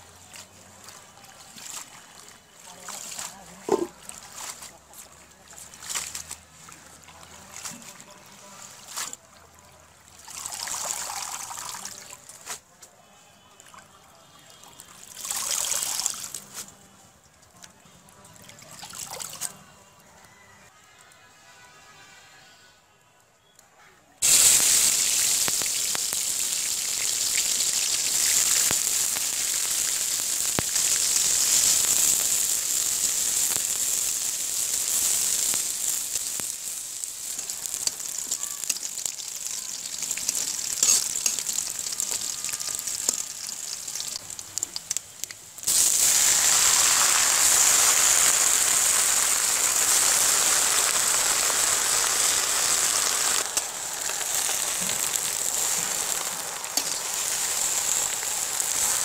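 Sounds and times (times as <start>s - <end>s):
garlic frying in hot oil: 0.0s - 12.6s, 24.2s - 59.0s.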